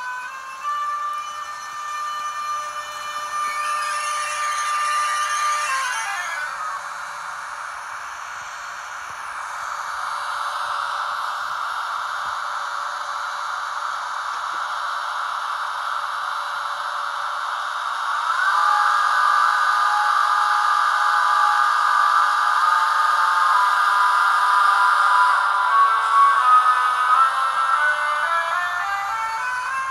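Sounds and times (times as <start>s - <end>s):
model locomotive running hiss: 0.0s - 29.9s
rising inverter whine: 0.0s - 29.9s.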